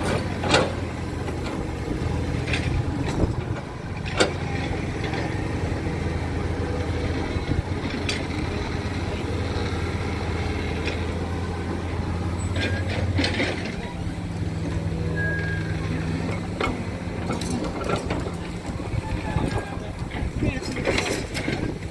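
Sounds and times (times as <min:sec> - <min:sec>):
heavy vehicle engine running: 0:00.0 - 0:21.9.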